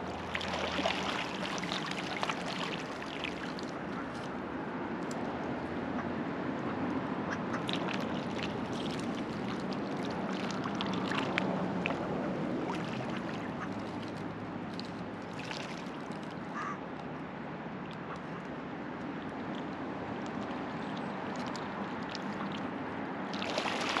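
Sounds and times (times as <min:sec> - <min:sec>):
small water splashes: 0:00.0 - 0:17.0, 0:17.7 - 0:24.0
river water flowing: 0:00.0 - 0:24.0.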